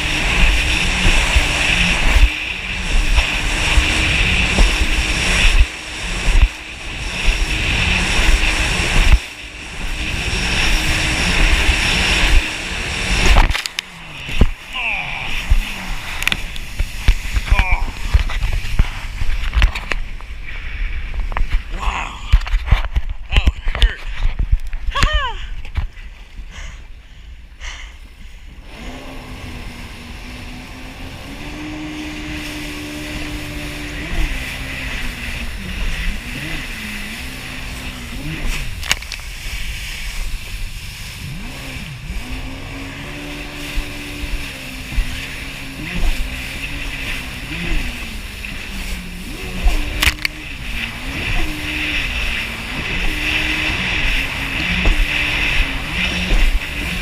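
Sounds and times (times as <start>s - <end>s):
jet ski engine revving: 0.0s - 24.7s, 26.6s - 57.0s
wind buffeting microphone: 0.0s - 26.7s, 28.5s - 57.0s.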